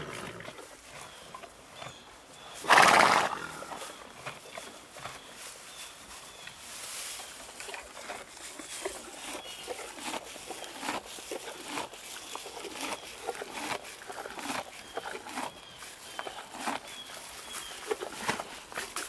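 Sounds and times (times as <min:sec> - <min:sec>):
horse tearing and chewing grass: 0:00.0 - 0:19.0.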